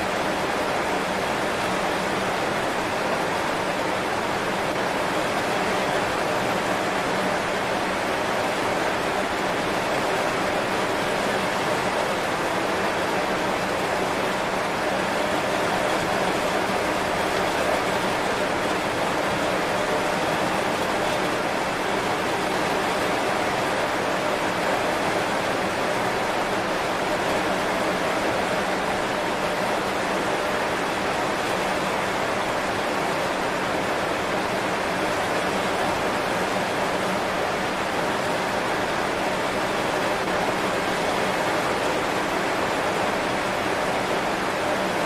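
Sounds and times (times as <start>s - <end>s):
heavy rain on leaves: 0.0s - 45.0s.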